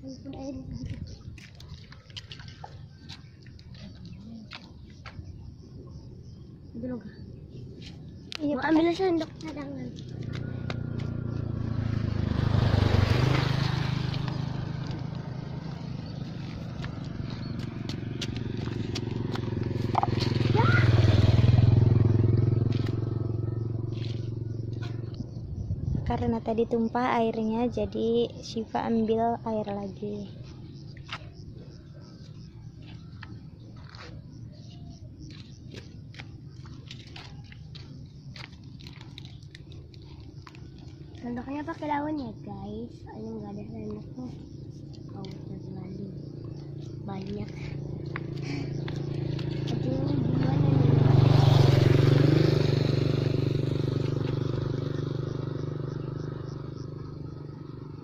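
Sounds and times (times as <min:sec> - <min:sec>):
motorcycle engine passing: 0:06.7 - 0:58.0.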